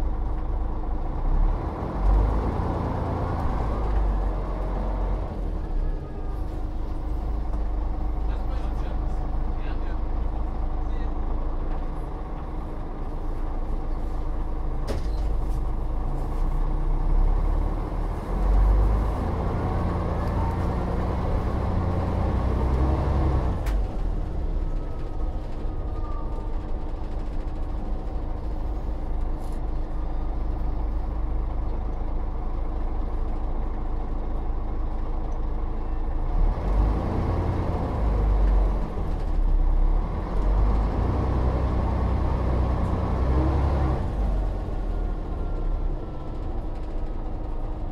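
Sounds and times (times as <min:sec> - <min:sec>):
bus engine running with whine: 0:00.0 - 0:47.9.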